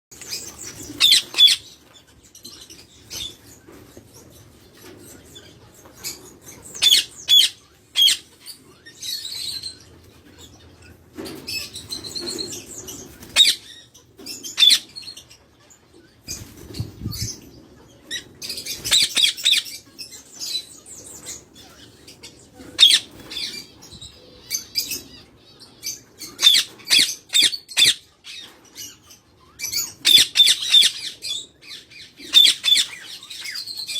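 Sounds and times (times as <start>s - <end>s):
parrots chirping and squawking: 0.2s - 33.9s.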